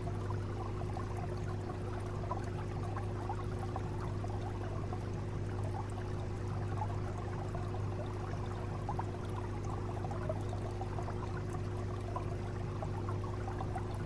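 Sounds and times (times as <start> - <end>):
aquarium filter hum: 0.0 - 14.0
water trickling and splashing: 0.1 - 14.0.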